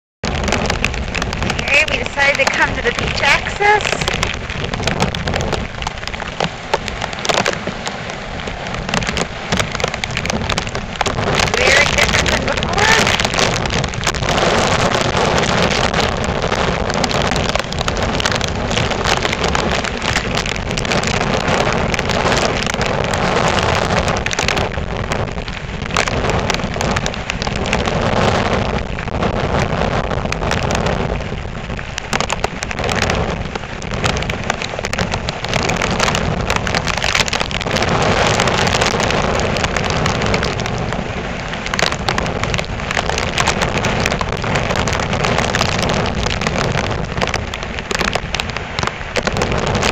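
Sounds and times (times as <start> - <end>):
heavy breaking surf: 0.2 - 49.9
rain: 0.2 - 49.9
wind gusts: 0.2 - 49.9.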